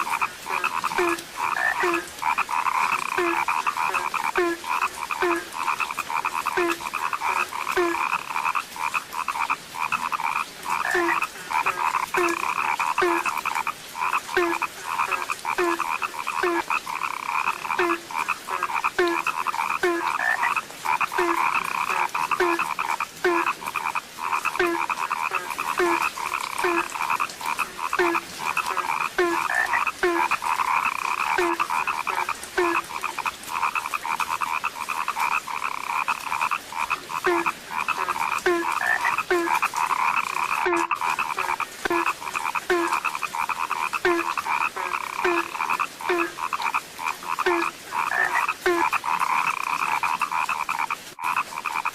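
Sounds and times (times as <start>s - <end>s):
chorus of frogs croaking: 0.0s - 51.9s
deep frog call: 0.0s - 51.9s.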